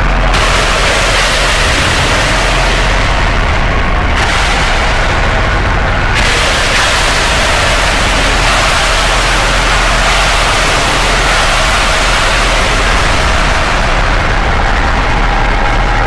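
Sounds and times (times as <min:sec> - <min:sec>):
harsh distorted noise: 0:00.0 - 0:16.0.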